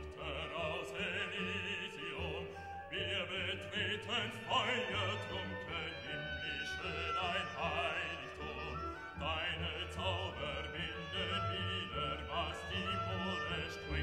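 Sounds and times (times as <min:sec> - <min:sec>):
operatic voice singing: 0:00.0 - 0:14.0
orchestral accompaniment: 0:00.0 - 0:14.0.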